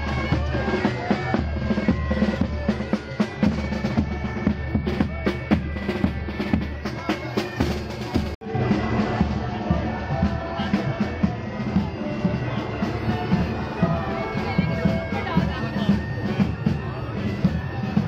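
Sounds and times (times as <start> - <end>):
bass and snare drum strokes: 0.0 - 18.0
live band music: 0.0 - 18.0.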